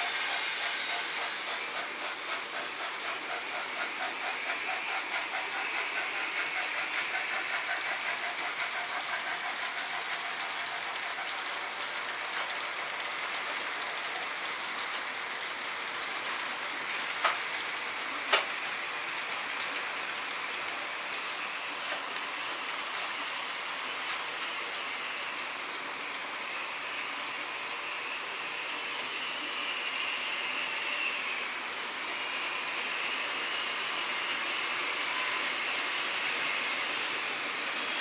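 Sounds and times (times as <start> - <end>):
model trains rolling on track: 0.0 - 38.0.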